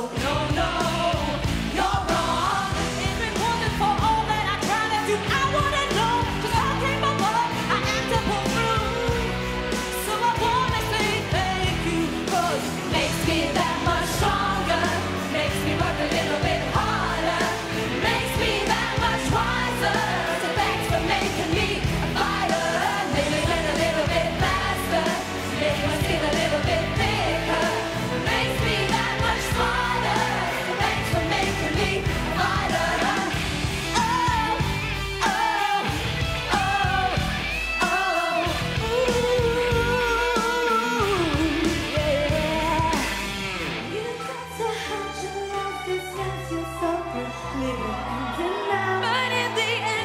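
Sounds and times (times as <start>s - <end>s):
live pop band: 0.0s - 50.0s
steady drum beat: 0.2s - 43.3s.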